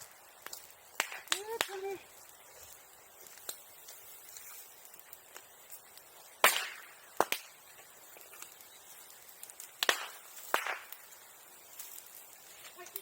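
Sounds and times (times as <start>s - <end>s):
burning wood cracking and popping: 0.0s - 13.0s.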